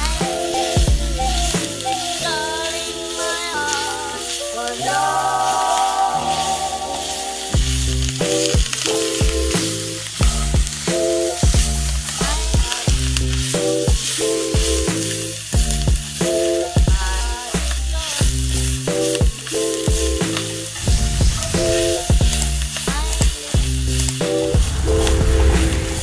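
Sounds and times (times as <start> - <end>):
background music with bass line: 0.0 - 2.7, 6.2 - 26.0
vegetables sizzling in a wok: 0.0 - 26.0.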